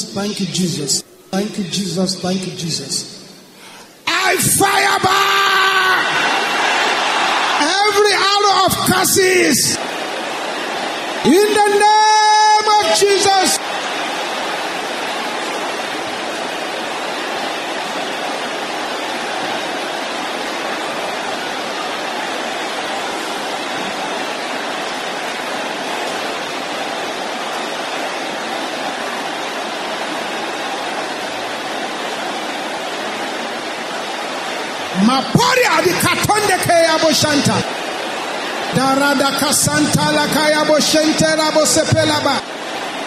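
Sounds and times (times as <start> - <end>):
congregation praying aloud: 4.0 - 43.0.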